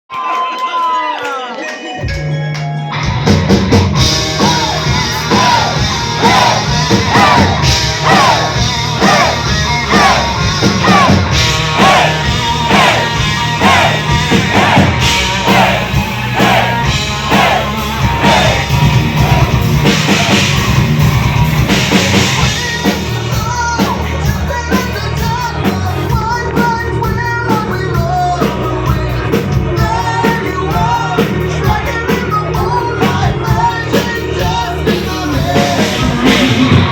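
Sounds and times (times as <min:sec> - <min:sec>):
bass guitar: 0:02.0 - 0:36.9
distorted guitars: 0:02.0 - 0:36.9
drum kit: 0:02.9 - 0:36.9
person singing lead vocal: 0:04.4 - 0:20.6, 0:22.4 - 0:36.9.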